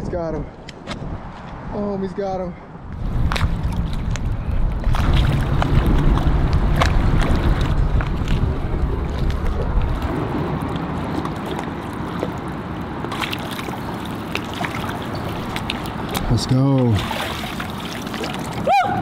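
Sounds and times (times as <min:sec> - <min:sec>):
wind buffeting microphone: 0:00.0 - 0:19.0
water lapping against boat hull: 0:03.0 - 0:19.0.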